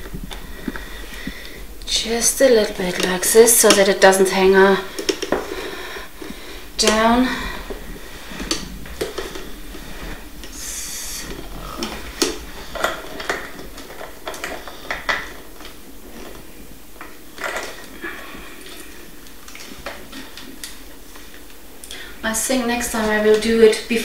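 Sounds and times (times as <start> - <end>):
hissing rustle: 0.0 - 23.2.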